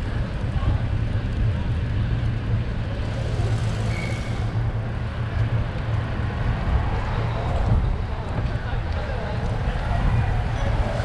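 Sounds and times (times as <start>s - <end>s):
traffic noise: 0.0s - 11.0s
wind rumble on microphone: 0.0s - 11.0s.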